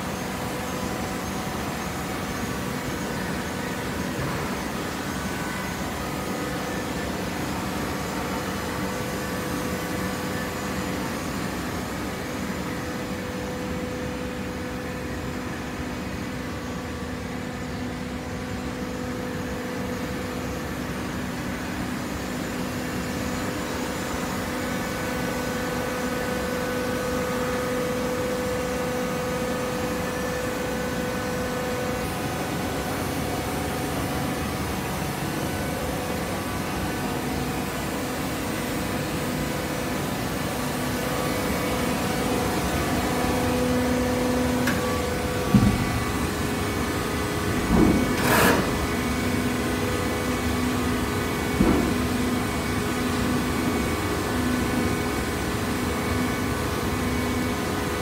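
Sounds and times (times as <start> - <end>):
hydraulic baler machine hum: 0.0 - 58.0.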